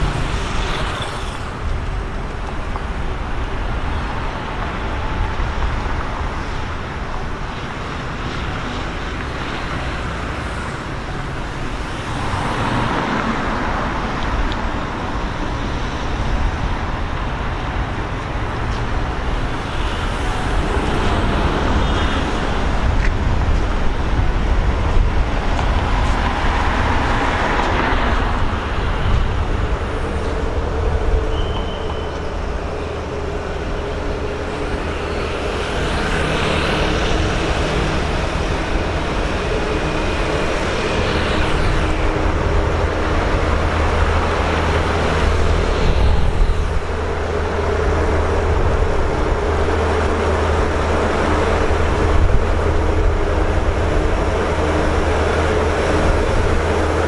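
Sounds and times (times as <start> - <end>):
locomotive engine rumbling: 0.0 - 57.0.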